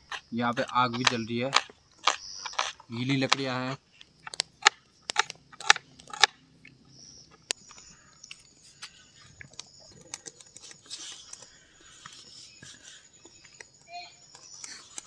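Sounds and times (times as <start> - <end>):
wet wood cracking in campfire: 0.0 - 12.1
faint fire crackle and hiss: 0.0 - 15.0.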